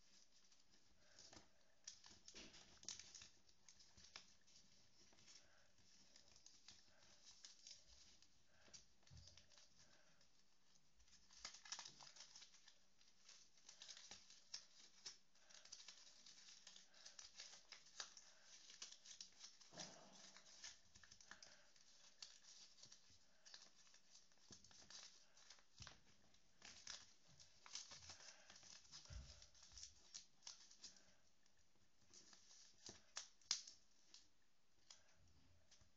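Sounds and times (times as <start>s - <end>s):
paper being folded: 0.0s - 35.9s.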